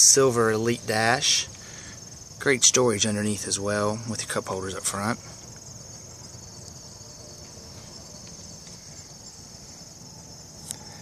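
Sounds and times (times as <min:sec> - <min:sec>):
faint background noise: 0:00.0 - 0:11.0
insects trilling: 0:00.0 - 0:11.0.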